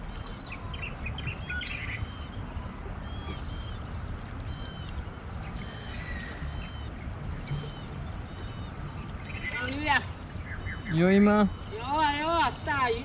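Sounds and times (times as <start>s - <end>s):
bird calling: 0.0s - 13.0s
low outdoor rumble: 0.0s - 13.0s.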